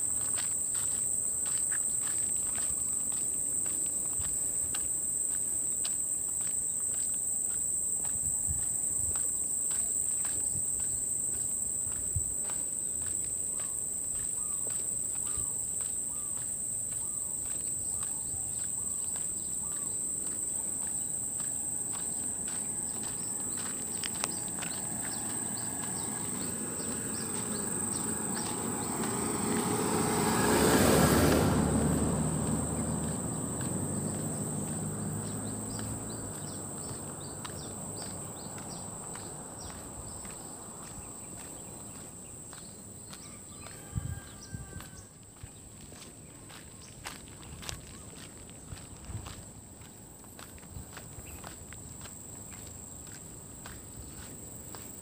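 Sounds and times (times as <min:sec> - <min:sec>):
footsteps on paved road: 0:00.0 - 0:55.0
insects droning: 0:00.0 - 0:55.0.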